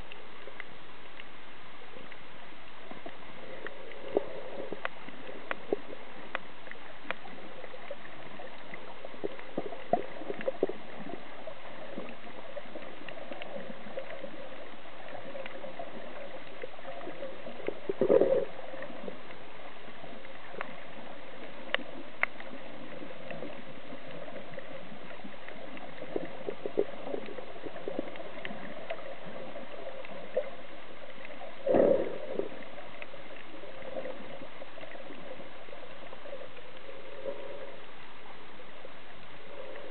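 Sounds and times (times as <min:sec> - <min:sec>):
muffled underwater hum: 0:00.0 - 0:39.9
small clicks and crackles: 0:00.0 - 0:39.9.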